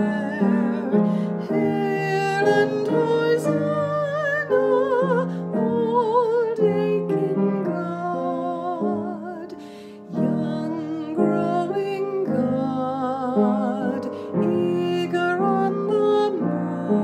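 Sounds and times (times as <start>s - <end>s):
woman singing a hymn: 0.0s - 17.0s.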